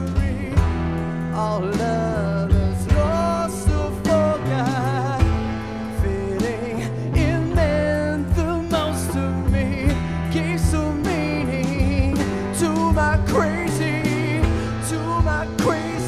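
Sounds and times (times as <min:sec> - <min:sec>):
acoustic guitar: 0:00.0 - 0:16.0
drum kit beat: 0:00.0 - 0:16.0
electric bass: 0:00.0 - 0:16.0.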